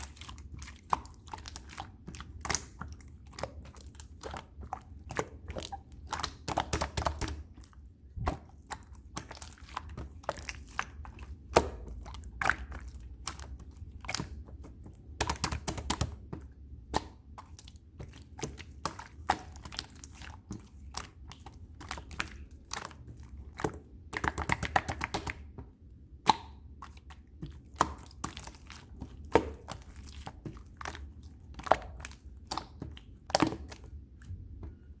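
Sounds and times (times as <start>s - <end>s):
slime squished by hand: 0.0s - 35.0s.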